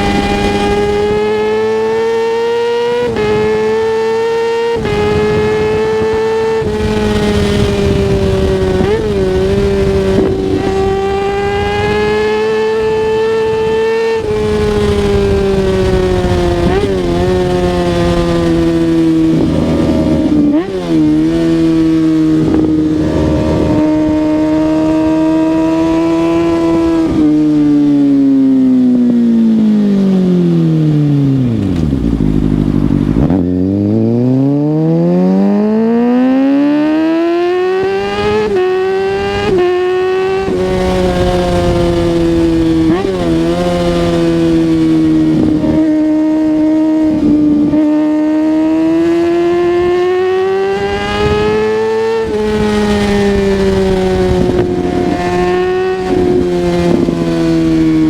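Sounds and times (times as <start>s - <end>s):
gear changes: 0.0s - 58.0s
motorcycle engine revving: 0.0s - 58.0s.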